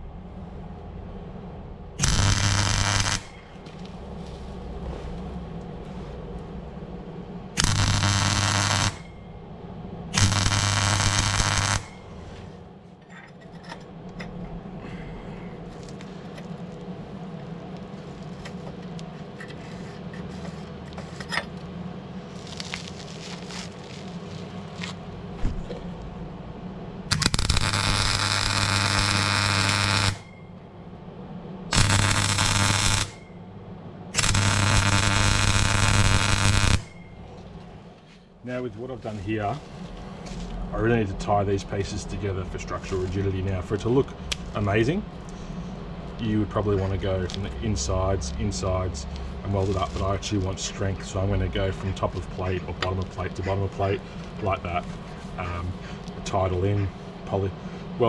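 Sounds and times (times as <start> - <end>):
welder arc crackling and buzzing: 1.9 - 12.8, 15.7 - 30.4, 31.6 - 38.2, 39.3 - 57.5.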